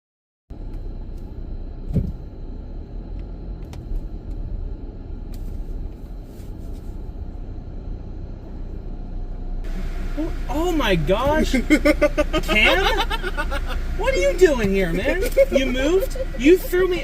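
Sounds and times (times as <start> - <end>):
car engine rumbling: 0.5 - 17.0.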